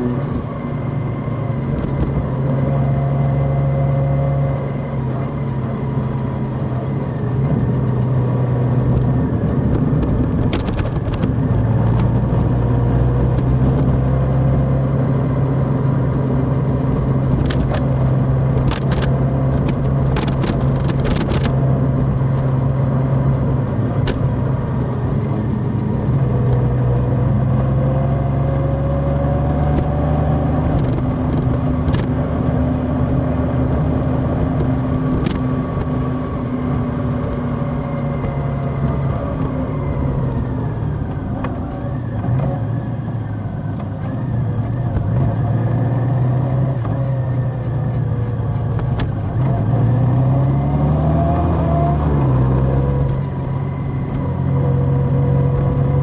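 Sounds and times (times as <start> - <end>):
motorcycle engine running: 0.0 - 50.4.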